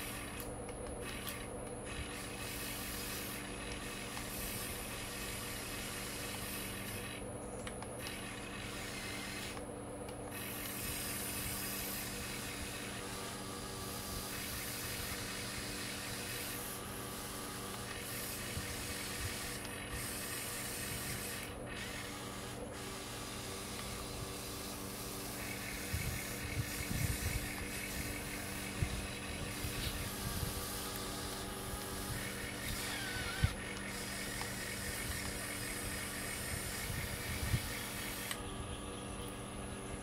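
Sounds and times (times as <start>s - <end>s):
small electric motors whirring: 0.0s - 40.0s.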